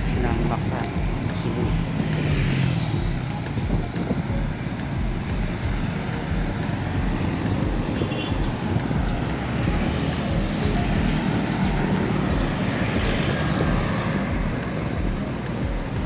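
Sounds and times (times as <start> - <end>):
traffic noise: 0.0 - 16.0
wind buffeting microphone: 0.0 - 16.0
wind rushing: 0.0 - 16.0.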